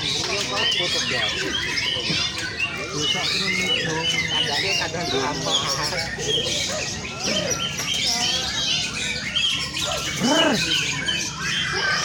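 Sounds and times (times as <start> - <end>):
birds singing whistles and trills: 0.0 - 12.0.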